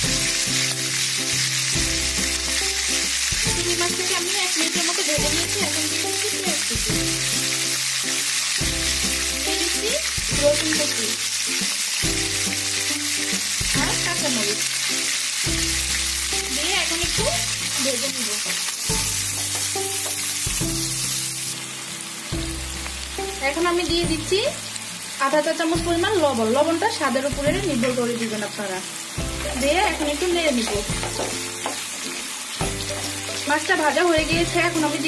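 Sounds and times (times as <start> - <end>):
shrimp sizzling in hot oil: 0.0 - 35.0.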